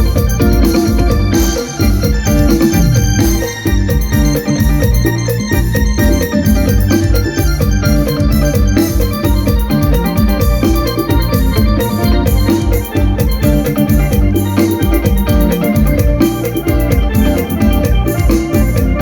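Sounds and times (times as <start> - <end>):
bass: 0.0 - 19.0
electronic keyboard organ tune: 0.0 - 19.0
steady drum beat: 0.0 - 19.0.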